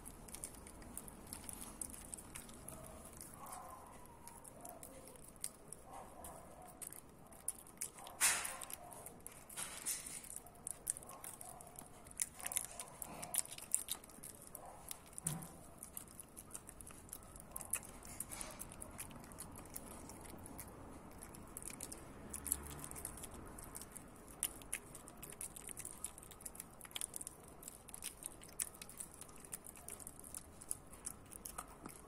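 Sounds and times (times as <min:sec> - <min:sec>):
puppy chewing with mouth clicks: 0:00.0 - 0:32.0.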